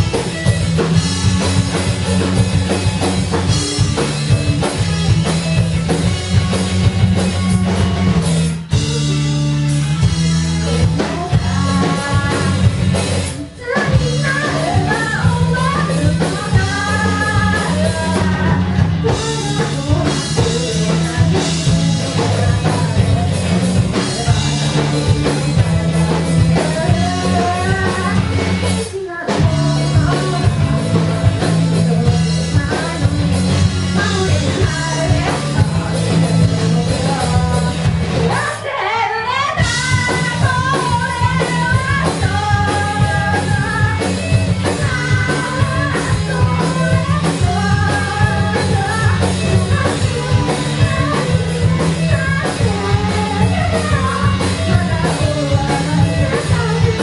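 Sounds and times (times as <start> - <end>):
rock band playing live: 0.0 - 57.0
lead vocal singing: 10.6 - 57.0.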